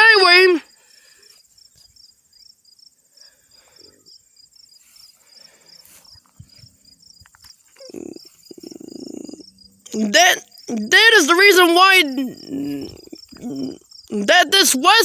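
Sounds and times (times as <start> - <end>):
crickets chirping: 0.0 - 15.0
insect trill: 0.0 - 15.0.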